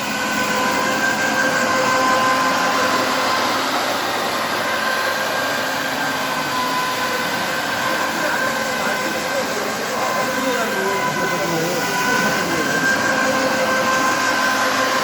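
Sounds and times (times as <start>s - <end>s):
floor scrubber vacuum hissing: 0.0s - 15.0s
motor whine: 0.0s - 15.0s.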